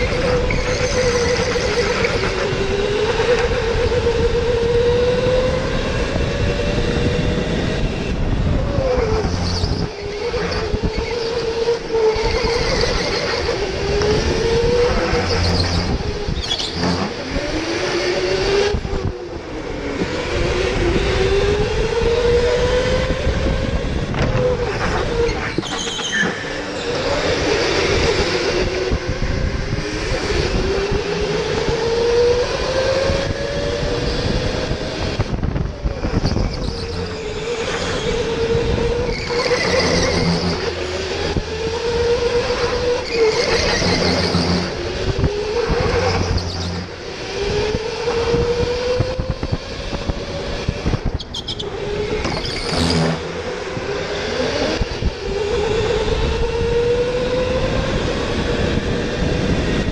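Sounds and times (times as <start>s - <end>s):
electric go-kart motor whining: 0.0s - 59.9s.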